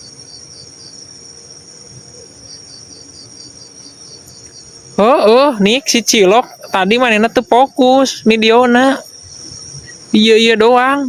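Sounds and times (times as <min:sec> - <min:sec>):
crickets trilling: 0:00.0 - 0:11.0
pulsed cricket chirp: 0:00.0 - 0:11.0.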